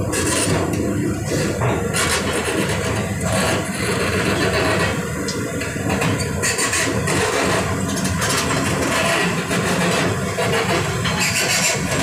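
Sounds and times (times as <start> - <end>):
excavator engine: 0.0 - 12.0.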